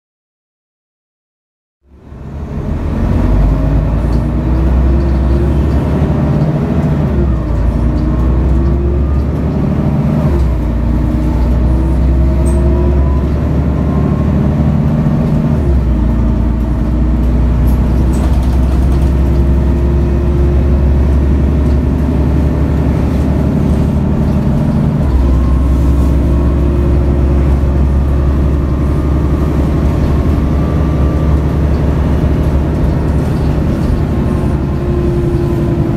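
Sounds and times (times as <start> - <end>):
bus diesel engine accelerating: 1.8 - 35.9.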